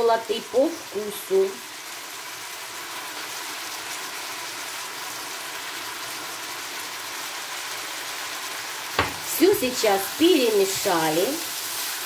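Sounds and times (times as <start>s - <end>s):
vegetables and rice sizzling in a pan: 0.0s - 12.0s.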